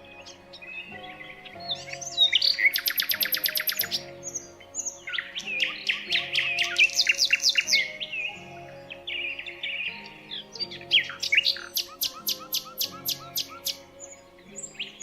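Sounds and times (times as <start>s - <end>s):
soft background music: 0.0s - 15.0s
songbirds singing: 0.0s - 15.0s.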